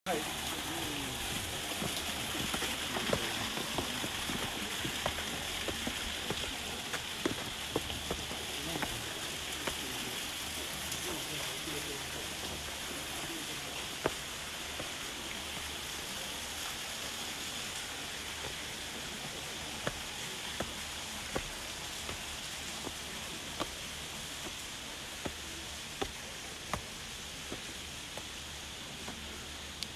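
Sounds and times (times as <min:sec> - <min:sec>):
waterfall rushing hiss: 0:00.1 - 0:29.9.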